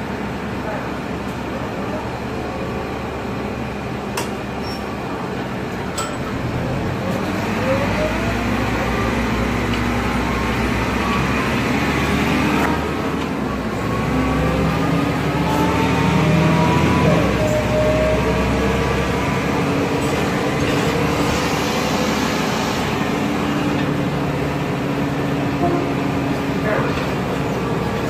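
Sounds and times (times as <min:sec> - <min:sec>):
bus engine whine accelerating: 0:00.0 - 0:28.0.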